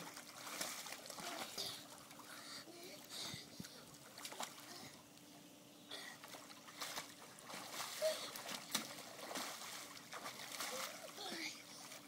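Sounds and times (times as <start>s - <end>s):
water splashing in a pool: 0.0s - 5.2s, 6.0s - 12.0s
faint steady hum: 0.0s - 12.0s.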